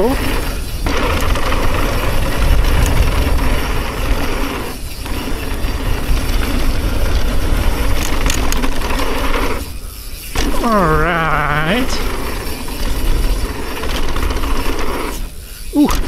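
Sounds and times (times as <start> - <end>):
bike tyres rattling over dirt: 0.0 - 16.0.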